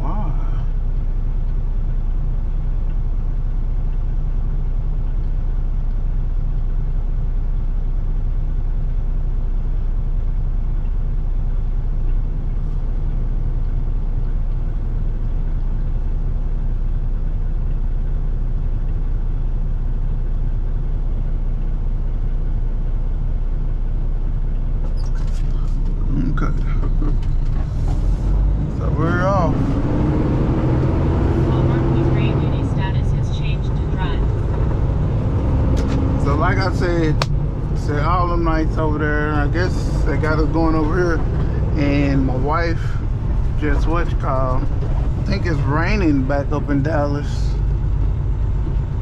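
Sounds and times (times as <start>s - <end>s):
diesel truck engine idling: 0.0s - 49.0s.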